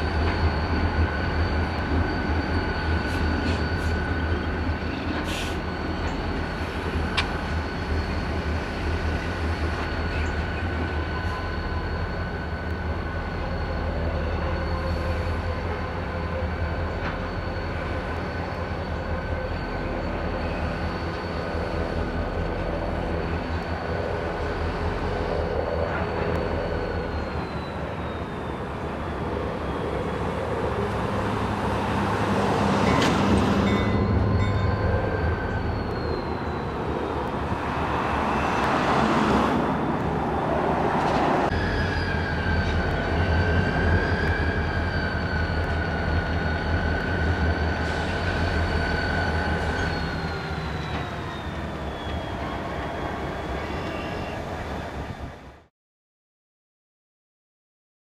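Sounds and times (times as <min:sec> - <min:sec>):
wheels squealing: 0:00.0 - 0:55.1
diesel locomotive engine hum: 0:00.0 - 0:55.7.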